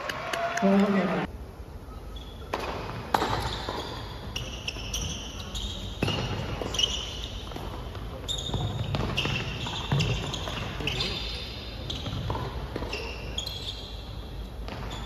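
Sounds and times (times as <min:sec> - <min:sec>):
shoes squeaking on court: 0:02.1 - 0:15.0.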